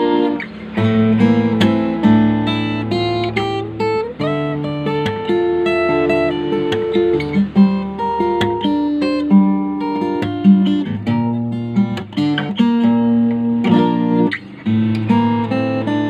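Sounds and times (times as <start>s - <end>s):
acoustic guitar fingerstyle: 0.0s - 16.0s.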